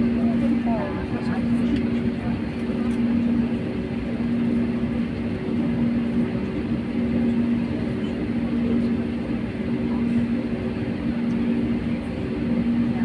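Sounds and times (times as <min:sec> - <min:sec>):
airliner cabin rumble: 0:00.0 - 0:13.0
steady hum: 0:00.0 - 0:13.0.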